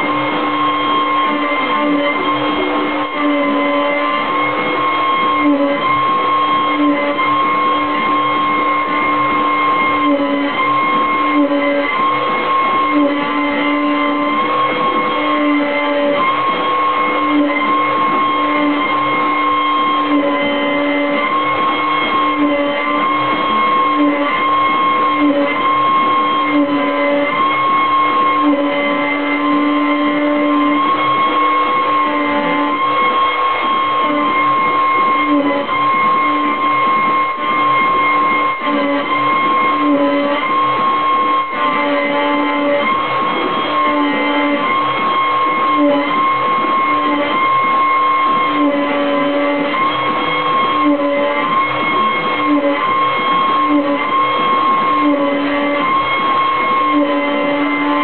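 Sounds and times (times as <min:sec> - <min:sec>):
router spindle whine: 0:00.0 - 0:58.0
wood cutting noise: 0:00.0 - 0:58.0.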